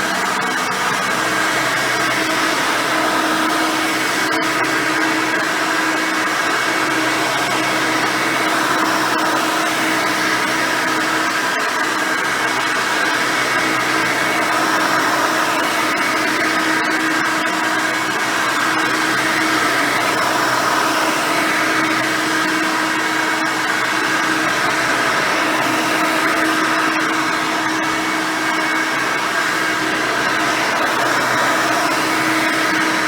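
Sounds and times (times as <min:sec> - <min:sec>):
vacuum cleaner motor whine: 0:00.0 - 0:33.0.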